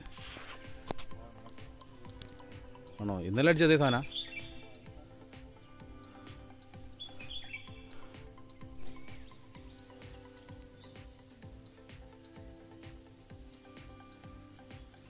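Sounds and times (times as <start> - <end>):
bird chirps: 0.0 - 15.0
crickets chirring: 0.0 - 15.0.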